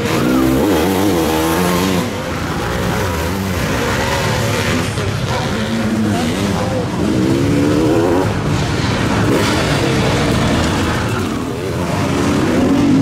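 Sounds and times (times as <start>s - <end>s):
motocross engines revving: 0.0s - 13.0s.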